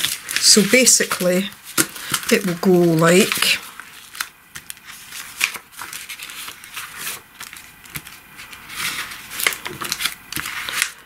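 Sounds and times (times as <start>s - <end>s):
paper envelopes rustling: 0.0s - 11.0s.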